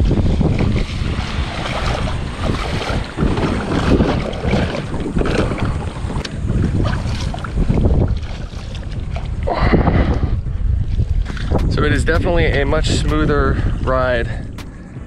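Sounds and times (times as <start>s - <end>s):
water sloshing and splashing: 0.0s - 13.7s
wind on microphone: 0.0s - 15.0s.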